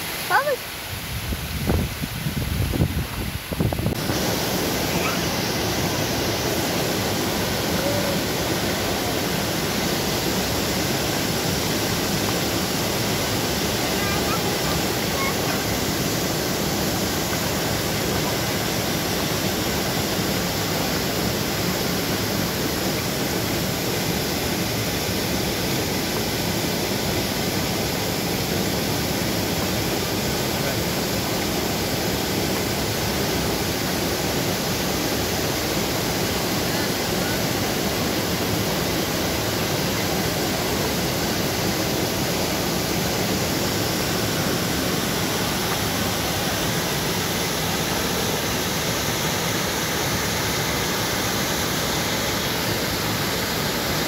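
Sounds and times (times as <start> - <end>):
small waterfall rushing: 0.0 - 54.0.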